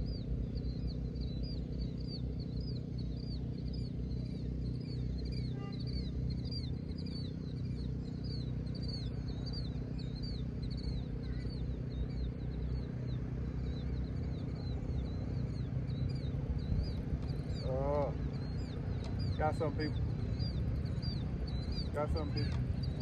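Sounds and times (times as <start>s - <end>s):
bird chirping: 0.0s - 23.0s
wind rumble: 0.0s - 23.0s.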